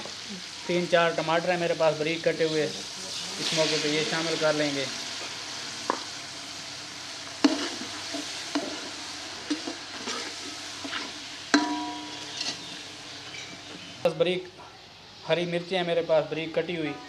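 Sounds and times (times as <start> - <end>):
tomatoes sizzling in hot oil: 0.0 - 15.2.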